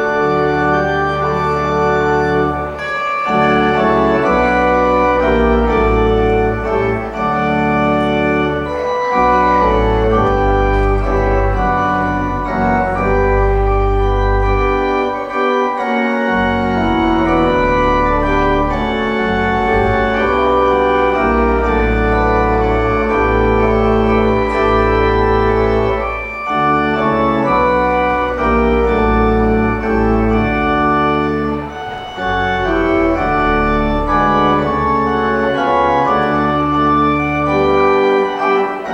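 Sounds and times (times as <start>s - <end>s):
organ music with sustained chords: 0.0s - 38.9s.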